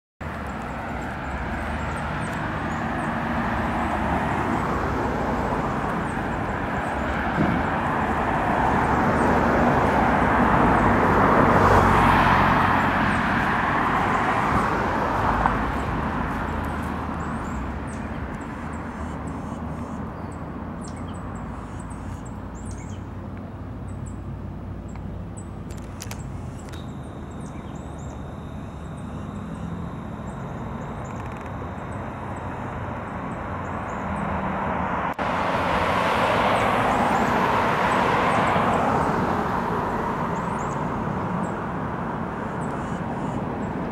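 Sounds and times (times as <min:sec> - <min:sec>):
birds chirping: 0:00.2 - 0:34.5, 0:40.3 - 0:41.6, 0:42.4 - 0:43.9
vehicle passing by: 0:00.2 - 0:43.9.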